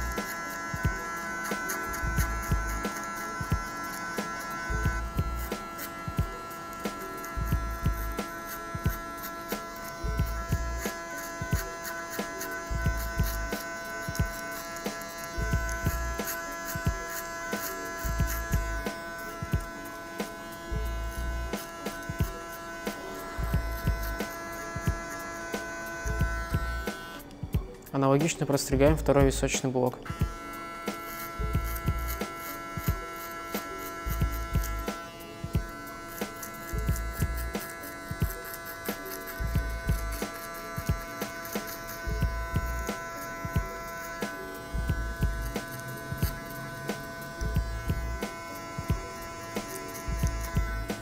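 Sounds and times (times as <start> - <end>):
background music with low beat: 0.0 - 51.0
electric hair clipper humming: 0.0 - 51.0.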